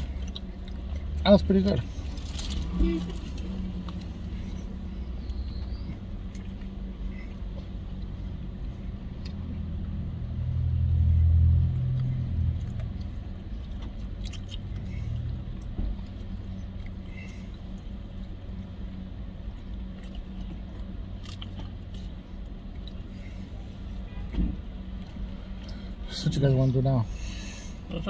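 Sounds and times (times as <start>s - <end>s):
car cabin rumble: 0.0s - 11.2s, 11.8s - 28.0s.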